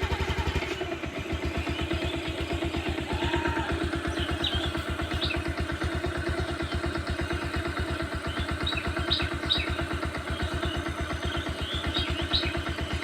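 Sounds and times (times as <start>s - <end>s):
small engine throbbing: 0.0s - 13.0s
birds chirping: 0.1s - 13.0s.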